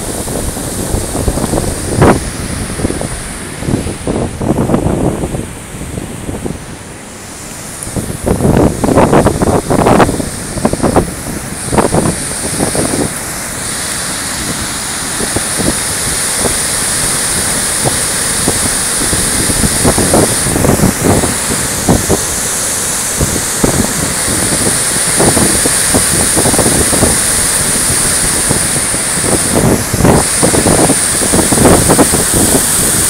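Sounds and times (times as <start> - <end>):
floodwater rushing: 0.0 - 33.0
wind buffeting microphone: 0.0 - 33.0.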